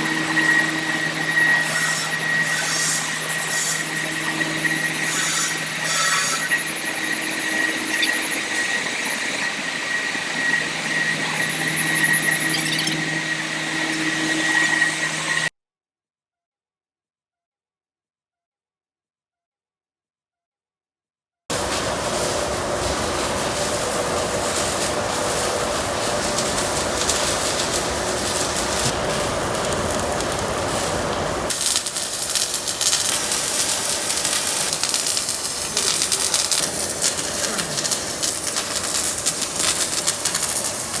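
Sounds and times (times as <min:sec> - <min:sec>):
hiss with dense crackling: 0:00.0 - 0:15.5, 0:21.5 - 0:41.0
welding machinery humming: 0:00.0 - 0:15.5, 0:21.5 - 0:41.0.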